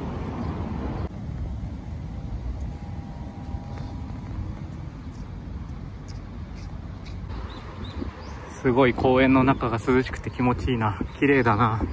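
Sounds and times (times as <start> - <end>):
distant road traffic: 0.0 - 11.9
wind on microphone: 0.0 - 11.9.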